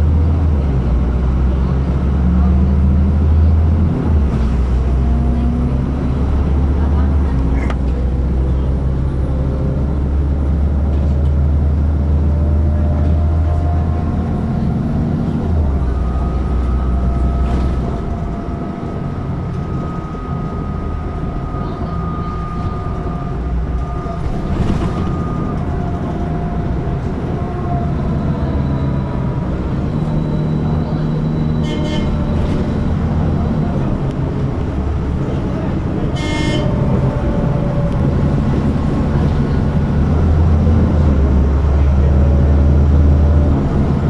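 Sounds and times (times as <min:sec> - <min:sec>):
bus engine low drone: 0:00.0 - 0:44.0.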